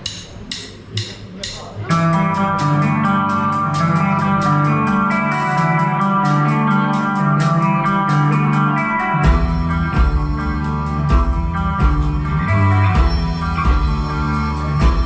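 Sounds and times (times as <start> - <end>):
bass and drums: 0.0 - 15.0
guitar playing: 1.8 - 15.0.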